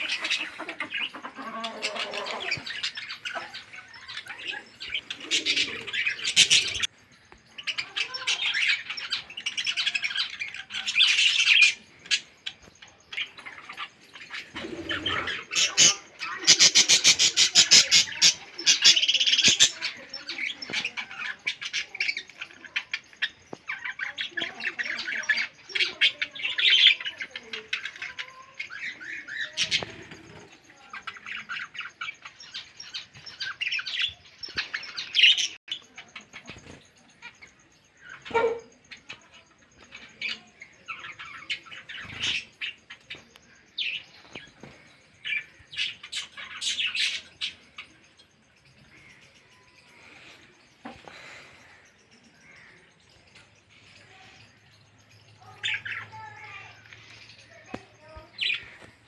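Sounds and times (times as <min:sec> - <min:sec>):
caged birds chirping: 0:00.0 - 0:59.0.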